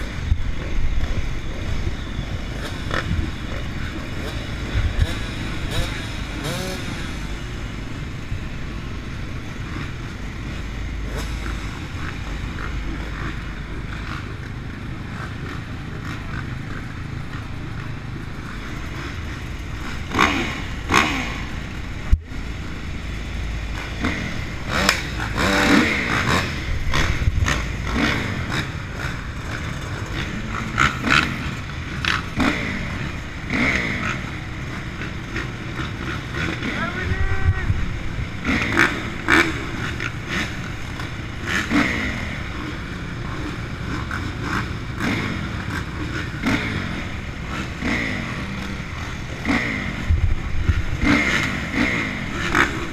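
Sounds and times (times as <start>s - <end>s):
motocross engines idling: 0.0s - 52.9s.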